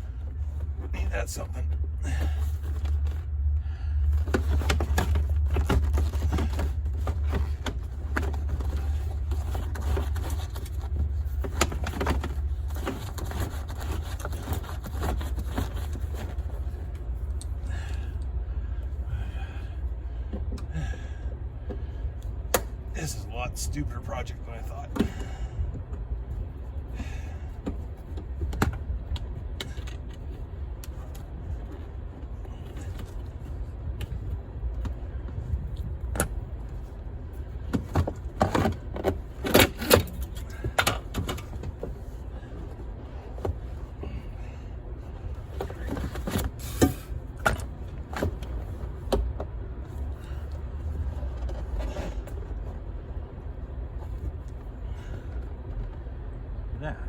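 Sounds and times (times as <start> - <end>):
car parts knocking and clattering: 0.0 - 23.0, 24.5 - 56.3
steady low rumble: 0.0 - 57.0.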